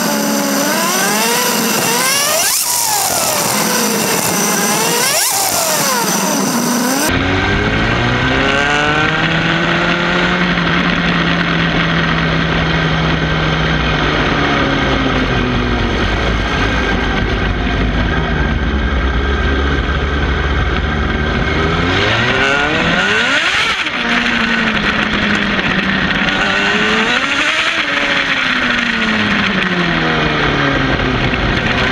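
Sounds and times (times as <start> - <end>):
deep steady engine drone: 0.0 - 31.9
motorcycle engines revving: 0.0 - 31.9.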